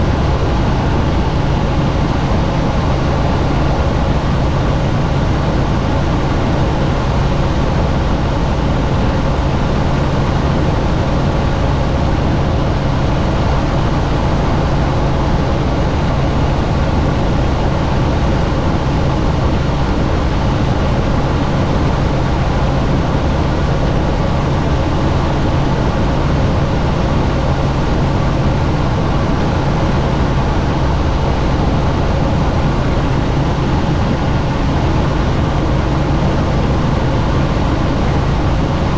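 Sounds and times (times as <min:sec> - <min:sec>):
helicopter rotor and engine: 0:00.0 - 0:38.9
low hum: 0:00.0 - 0:38.9
rushing wind: 0:00.0 - 0:38.9.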